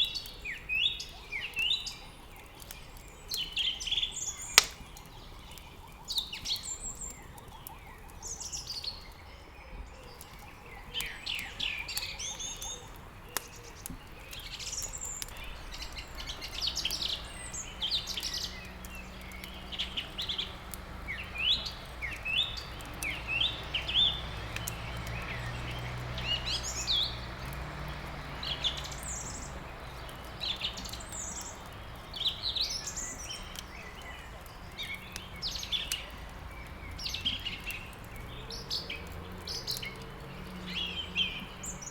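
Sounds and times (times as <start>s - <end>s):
small songbirds chirping: 0.0s - 41.9s
wood crackling in fireplace: 0.0s - 41.9s.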